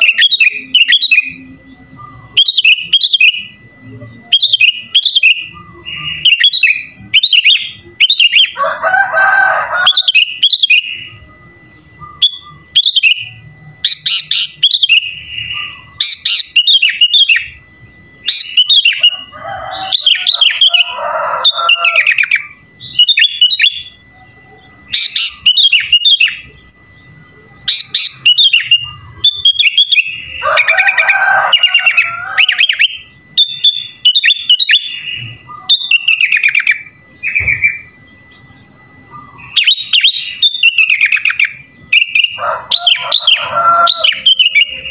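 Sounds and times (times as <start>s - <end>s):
bulbul singing: 0.0s - 44.9s.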